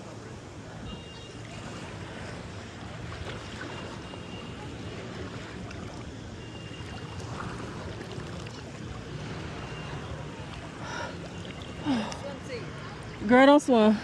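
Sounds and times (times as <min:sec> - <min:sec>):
sea water at shoreline: 0:00.0 - 0:14.0.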